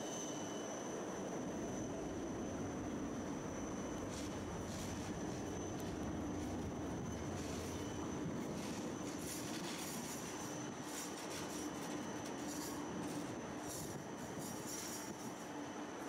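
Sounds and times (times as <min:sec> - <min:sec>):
faint high whine: 0:00.0 - 0:16.0
tram rumbling: 0:00.9 - 0:16.0.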